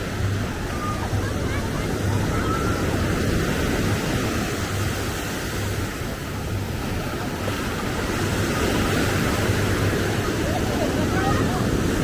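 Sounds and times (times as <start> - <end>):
surf: 0.0 - 12.0.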